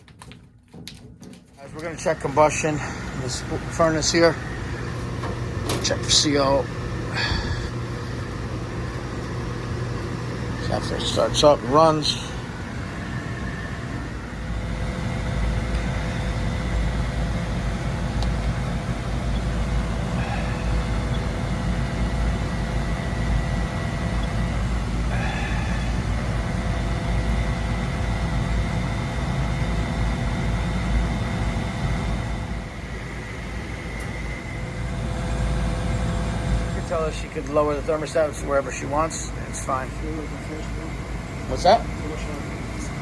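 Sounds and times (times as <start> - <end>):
faint steady whine: 0.0 - 43.0
gas furnace low rumble: 0.0 - 43.0.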